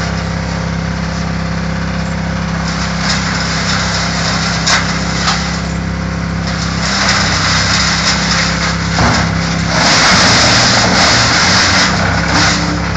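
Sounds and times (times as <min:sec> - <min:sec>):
wood chipper engine humming: 0:00.0 - 0:12.9
rough chipping noise: 0:02.5 - 0:12.9.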